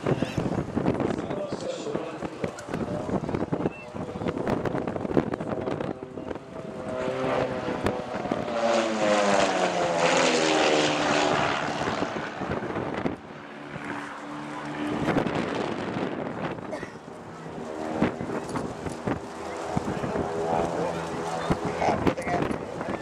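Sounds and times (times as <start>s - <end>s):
propeller aircraft flying past: 0.0s - 23.0s.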